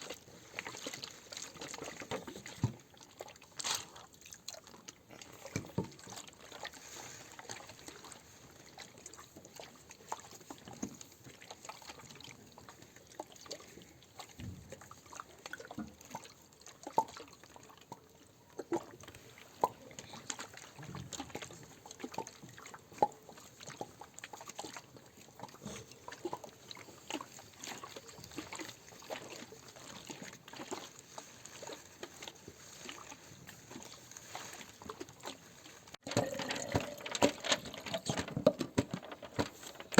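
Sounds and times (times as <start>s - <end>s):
soft water trickle: 0.0s - 39.9s.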